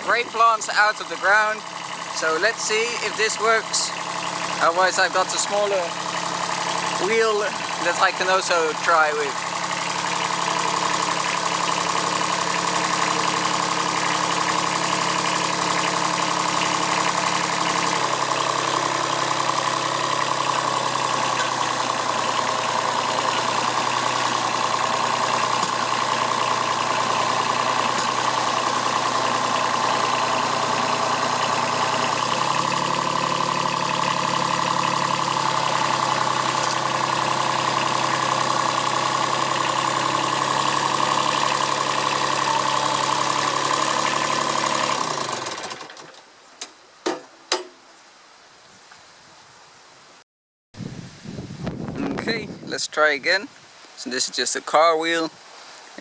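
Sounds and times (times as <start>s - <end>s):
tractor diesel engine running: 0.0s - 46.4s.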